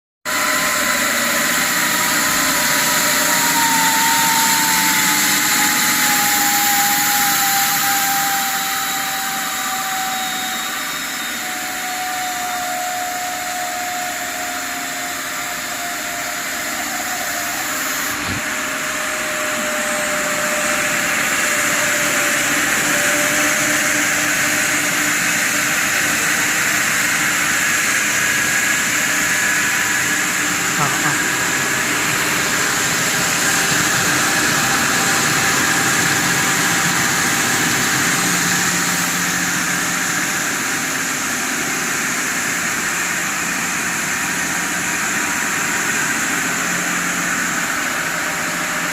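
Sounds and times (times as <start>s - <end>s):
plucking machine running with hiss: 0.3s - 48.9s.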